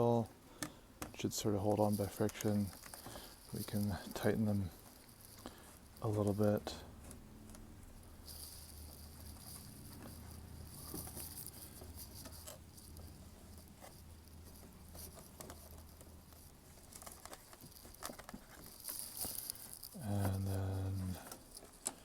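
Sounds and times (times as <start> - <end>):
small clicks and knocks: 0.5 - 22.0.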